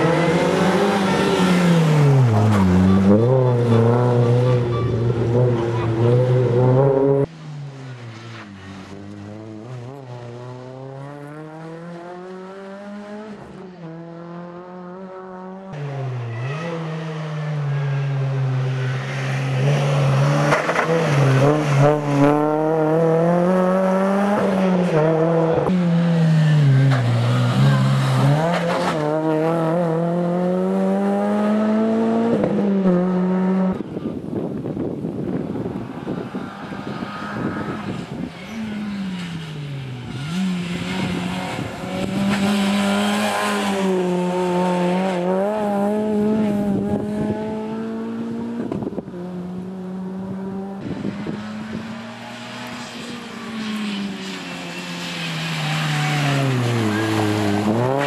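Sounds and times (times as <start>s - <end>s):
rally car engine driven hard: 0.0s - 58.0s.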